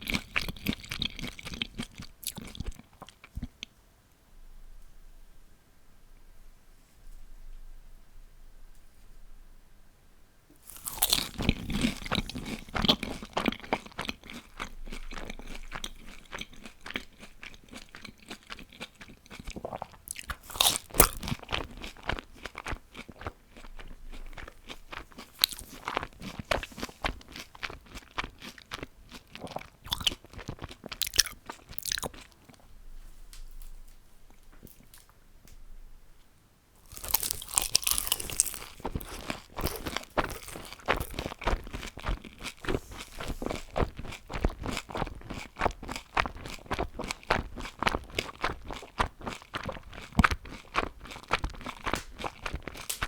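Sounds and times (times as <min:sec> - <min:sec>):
crunchy chewing of fried food: 0:00.0 - 0:03.7, 0:10.6 - 0:35.2, 0:36.8 - 0:53.0.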